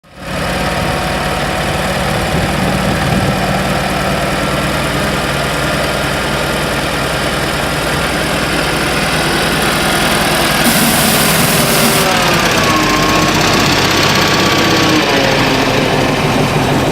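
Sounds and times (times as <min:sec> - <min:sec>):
dump truck diesel engine idling: 0:00.0 - 0:16.9.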